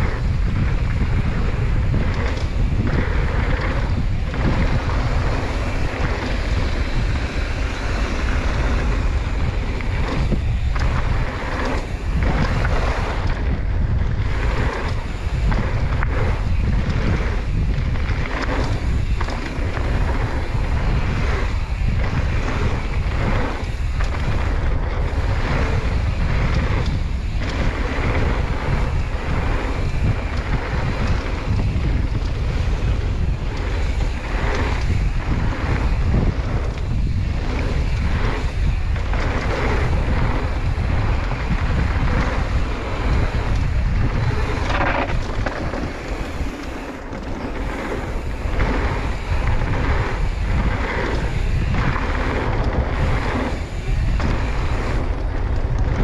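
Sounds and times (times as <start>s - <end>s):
bike knocking and rattling: 0.0s - 56.0s
bike tyres on dirt: 0.0s - 56.0s
wind buffeting microphone: 0.0s - 56.0s.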